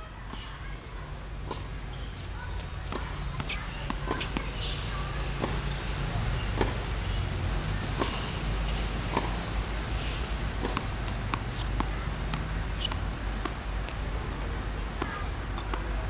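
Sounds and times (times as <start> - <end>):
tennis balls struck by rackets: 1.4 - 16.0
balls bouncing on hard court: 1.5 - 15.9.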